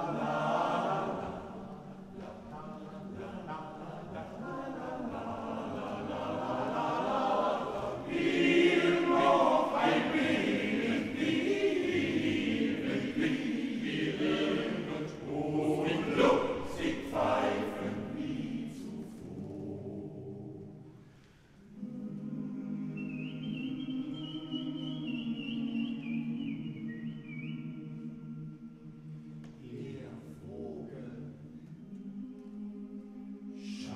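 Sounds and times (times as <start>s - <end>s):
male choir singing a cappella: 0.0s - 33.9s.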